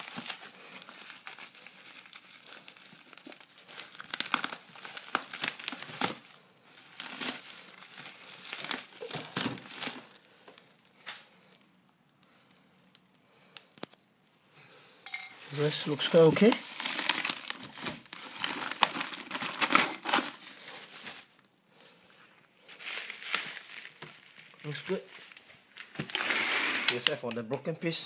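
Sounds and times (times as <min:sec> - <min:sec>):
bubble wrap crinkling and crackling: 0:00.0 - 0:14.4, 0:15.3 - 0:28.0.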